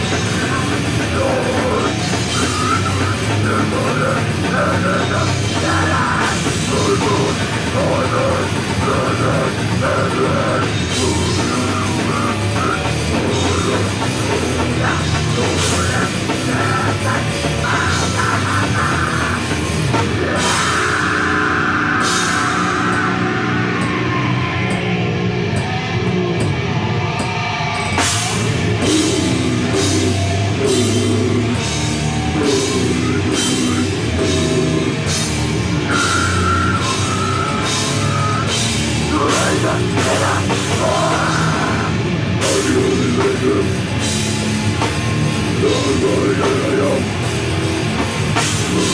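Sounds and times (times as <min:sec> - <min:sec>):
bass guitar: 0:00.0 - 0:48.9
distorted electric guitar: 0:00.0 - 0:48.9
drum kit: 0:00.0 - 0:48.9.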